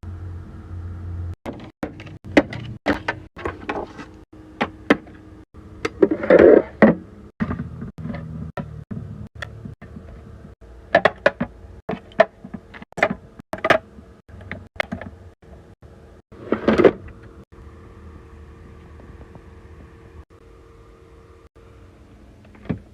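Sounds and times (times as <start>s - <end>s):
faint steady hum: 3.4s - 22.9s.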